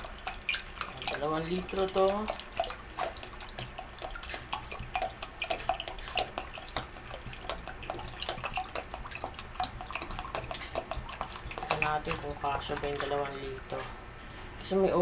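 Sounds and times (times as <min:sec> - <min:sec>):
water splashing into plastic reservoir: 0:00.0 - 0:14.2
water gulping from plastic bottle: 0:00.0 - 0:14.6.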